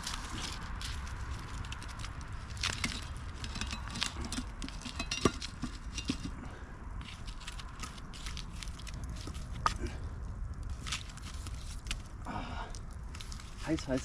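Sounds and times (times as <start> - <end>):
campfire crackling and popping: 0.0 - 14.0
wind rumble on microphone: 0.0 - 14.0.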